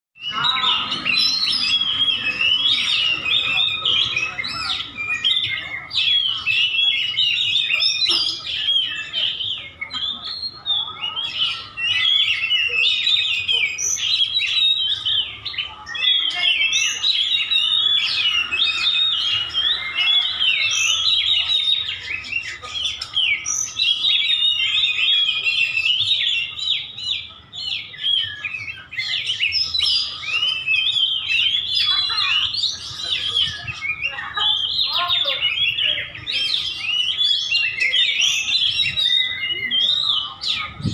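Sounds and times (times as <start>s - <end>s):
birds singing whistled phrases: 0.2s - 40.9s.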